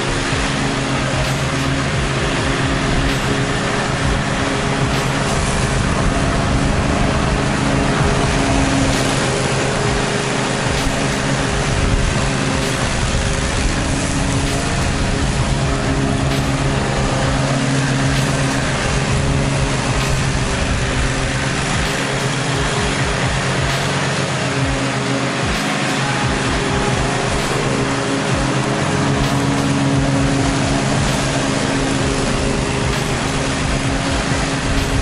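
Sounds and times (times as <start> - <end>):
riding mower engine running: 0.0 - 35.0.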